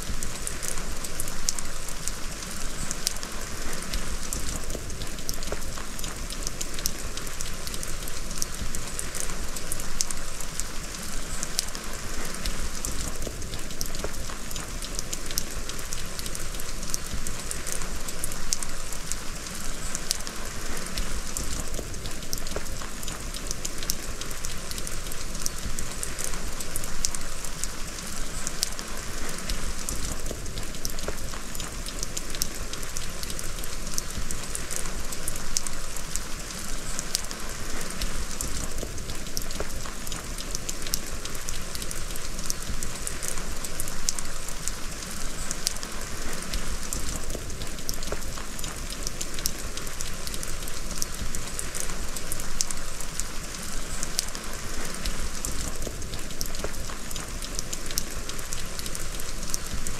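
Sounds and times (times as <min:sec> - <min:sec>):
rain on plastic tarp: 0:00.0 - 0:59.9.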